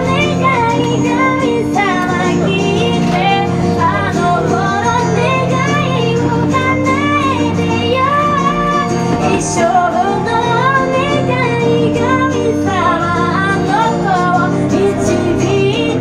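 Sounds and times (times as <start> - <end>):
strummed acoustic guitar: 0.0 - 16.0
woman singing: 0.0 - 16.0.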